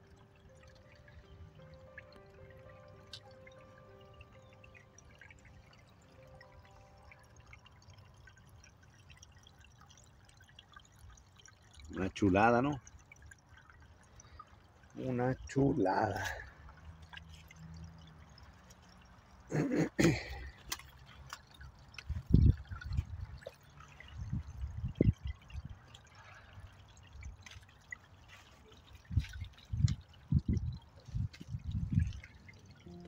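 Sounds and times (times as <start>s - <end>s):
stream trickling over rocks: 0.0s - 33.0s.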